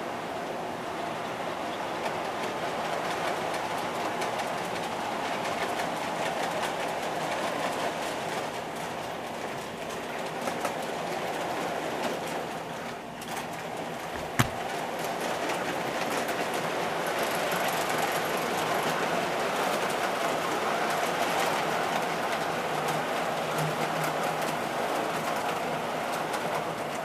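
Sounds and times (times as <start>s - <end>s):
model train rolling on track: 0.0s - 27.0s.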